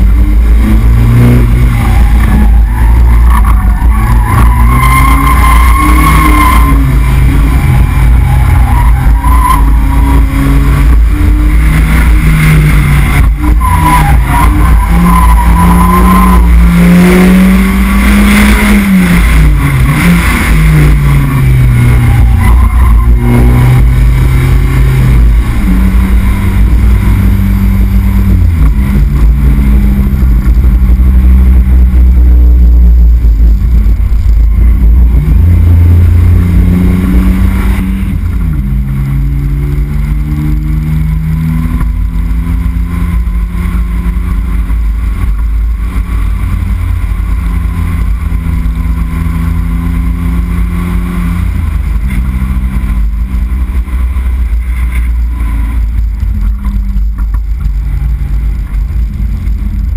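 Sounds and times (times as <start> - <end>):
car engine under load: 0.0 - 59.9.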